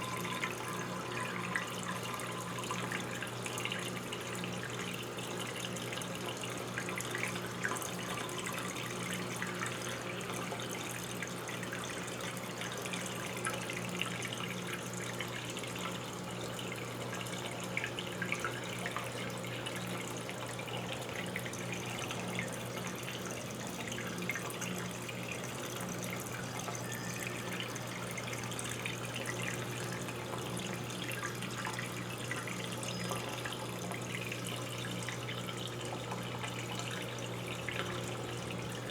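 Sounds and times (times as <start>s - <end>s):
washing machine hum: 0.0s - 38.9s.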